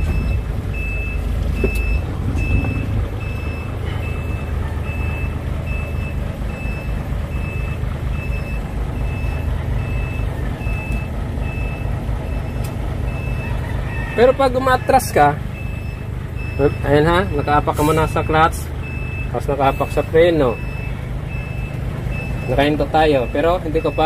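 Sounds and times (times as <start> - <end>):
reversing alarm beeping: 0.0 - 24.0
truck engine rumble: 0.0 - 24.0.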